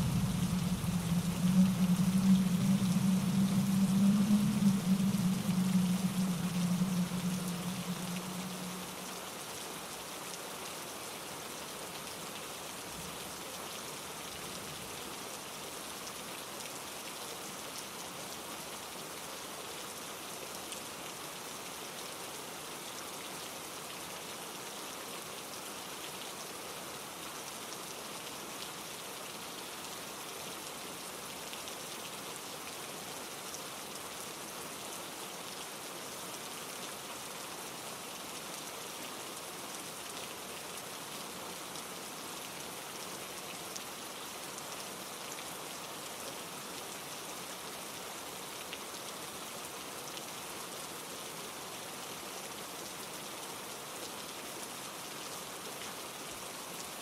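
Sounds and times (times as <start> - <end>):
rain falling in trees: 0.0 - 57.0
stream rushing over rocks: 0.0 - 57.0.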